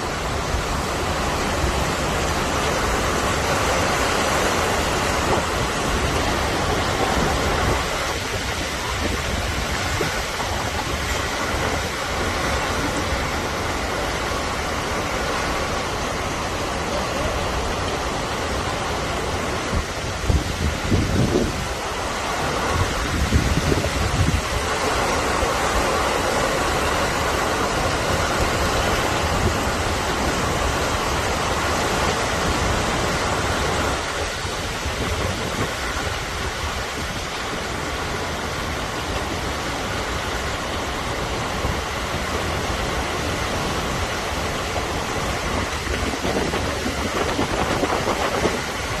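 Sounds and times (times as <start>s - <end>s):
wind buffeting microphone: 0.0s - 16.4s, 18.8s - 39.6s, 40.4s - 49.0s
heavy rain pouring: 0.0s - 49.0s.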